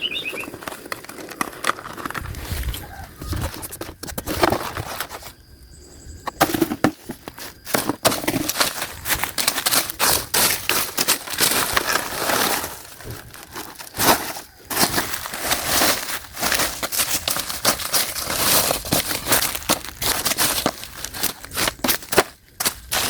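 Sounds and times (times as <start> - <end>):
plastic rubbish crinkling: 0.2 - 5.5, 6.2 - 23.0.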